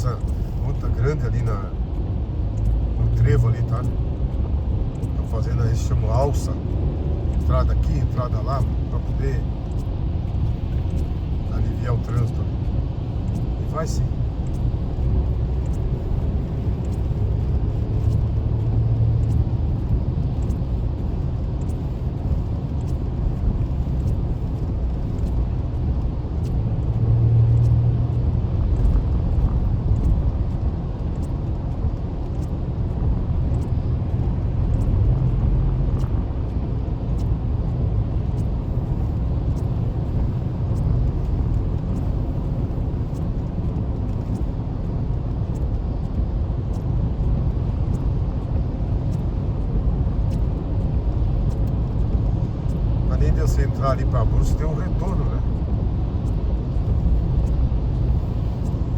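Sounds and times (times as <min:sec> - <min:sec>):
car engine and tyres rumbling: 0:00.0 - 0:58.9
faint regular ticking: 0:00.0 - 0:58.9.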